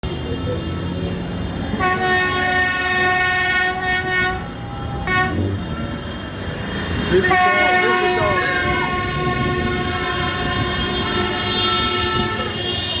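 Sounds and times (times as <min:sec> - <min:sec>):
bus air horn blaring: 0:00.1 - 0:13.0.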